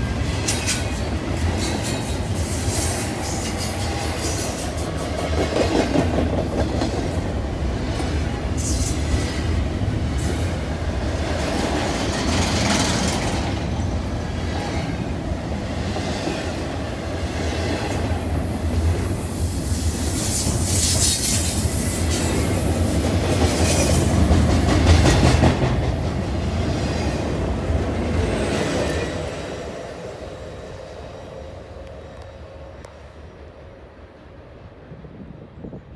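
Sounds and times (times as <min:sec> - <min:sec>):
freight train wheels rumbling: 0:00.0 - 0:35.9.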